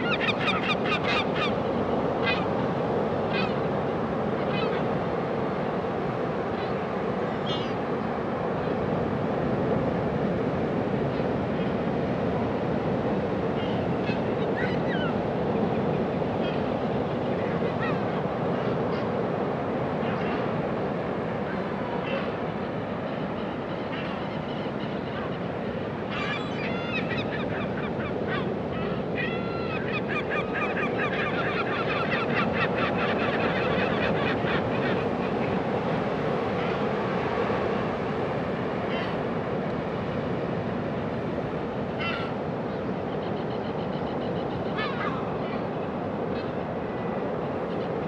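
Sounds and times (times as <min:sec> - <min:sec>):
ocean waves surf: 0:00.0 - 0:48.0.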